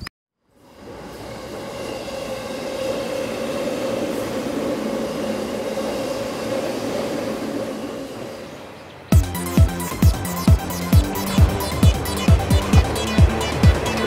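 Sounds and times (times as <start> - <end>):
diesel train droning: 0.4 - 14.0.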